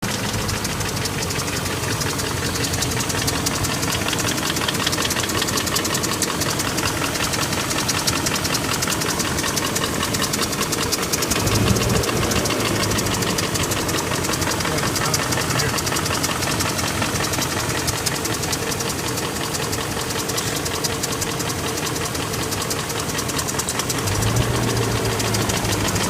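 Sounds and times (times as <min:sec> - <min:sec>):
car engine idling: 0:00.0 - 0:26.0
rapid even engine ticking: 0:00.0 - 0:26.0.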